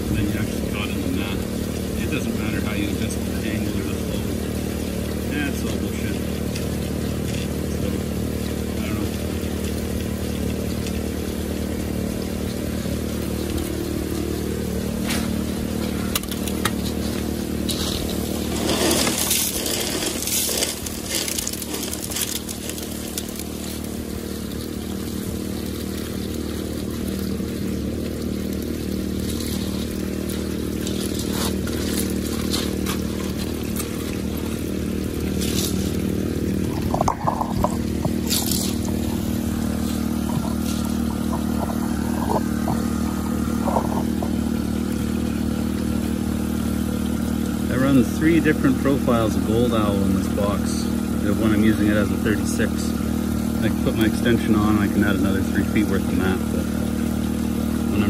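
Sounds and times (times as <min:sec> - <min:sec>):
rattling and splashing: 0:00.0 - 0:58.0
small gas engine running: 0:00.0 - 0:58.0
water rushing over sluice: 0:00.0 - 0:58.0.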